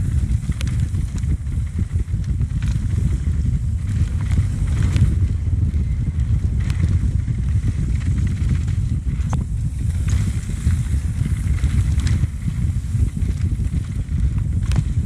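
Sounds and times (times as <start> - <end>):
bike rattling over bumps: 0.0 - 15.0
bike tyres rolling over dirt: 0.0 - 15.0
wind buffeting microphone: 0.0 - 15.0.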